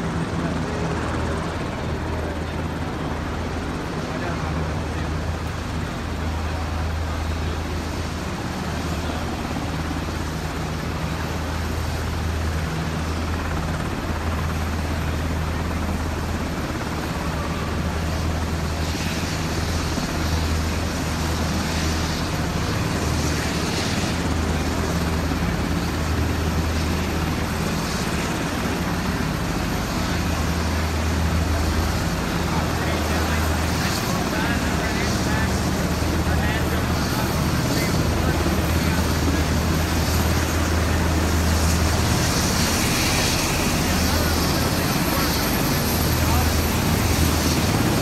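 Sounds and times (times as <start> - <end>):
helicopter engines and rotors droning: 0.0 - 48.0.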